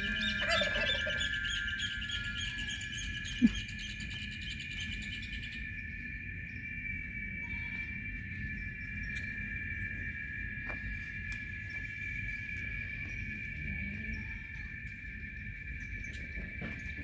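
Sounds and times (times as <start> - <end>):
birds chirping: 0.0 - 17.0
high-pitched drone: 0.0 - 17.0.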